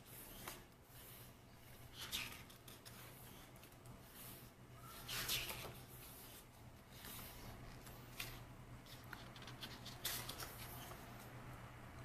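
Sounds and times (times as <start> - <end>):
book pages turning: 0.0 - 11.3.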